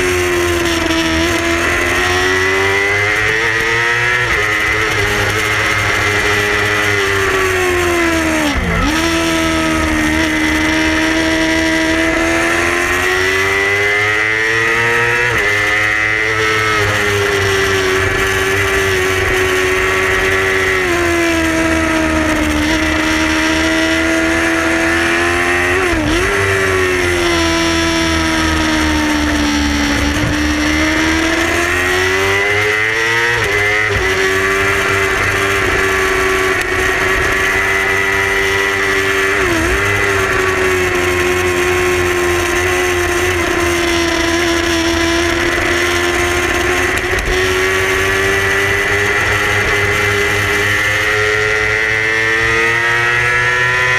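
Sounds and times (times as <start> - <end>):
racing motorcycle engine revving: 0.0 - 53.9.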